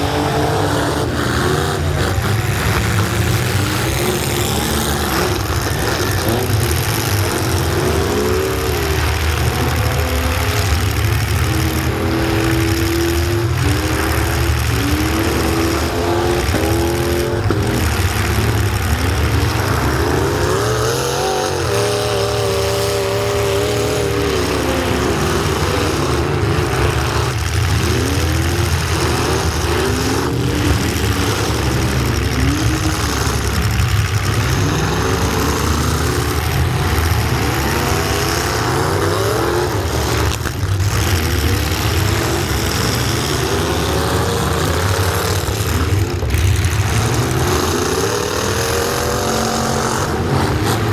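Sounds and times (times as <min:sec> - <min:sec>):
truck engines revving: 0:00.0 - 0:50.9.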